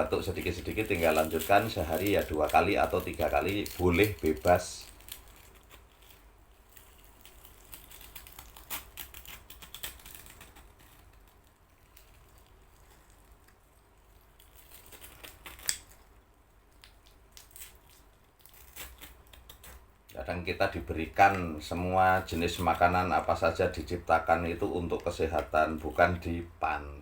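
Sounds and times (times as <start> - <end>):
small clicks and crackles of handling: 0.0 - 20.2, 21.1 - 26.3.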